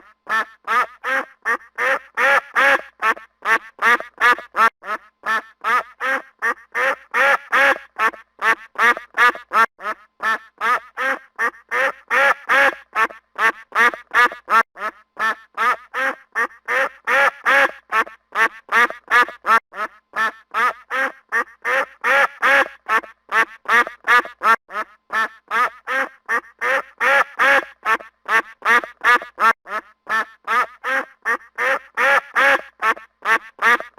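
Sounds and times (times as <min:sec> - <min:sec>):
goose honking: 0:00.0 - 0:33.9.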